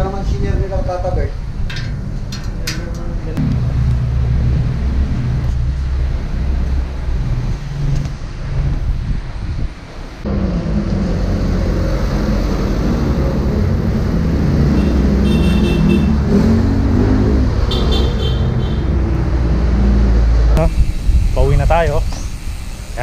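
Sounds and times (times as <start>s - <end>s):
wind on microphone: 0.0s - 15.2s, 19.2s - 22.4s
road traffic: 0.0s - 23.0s.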